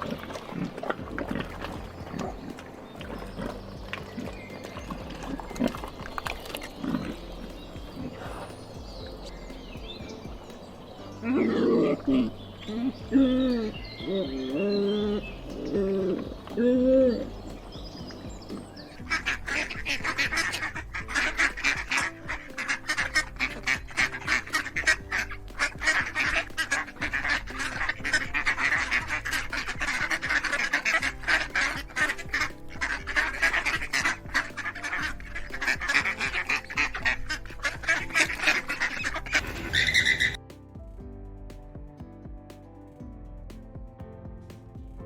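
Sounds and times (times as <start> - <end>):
ducks quacking: 0.0 - 40.4
background music: 0.0 - 45.0.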